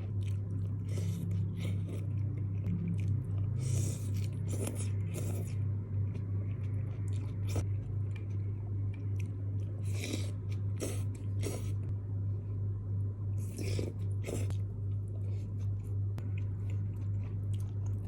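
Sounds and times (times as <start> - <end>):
chewing and biting: 0.0 - 11.9, 13.4 - 18.0
steady low hum: 0.0 - 18.0.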